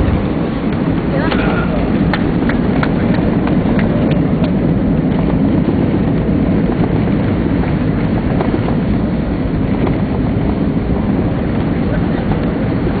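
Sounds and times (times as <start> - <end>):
jet airliner rumble in cabin: 0.0 - 13.0.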